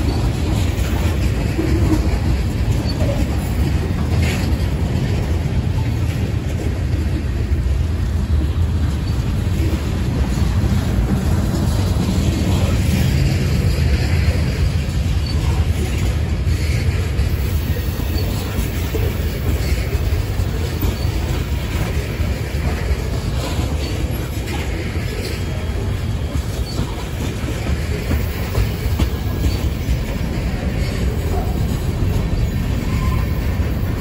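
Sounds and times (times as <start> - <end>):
freight train rolling past: 0.0 - 34.0
wheel clacks: 0.0 - 34.0.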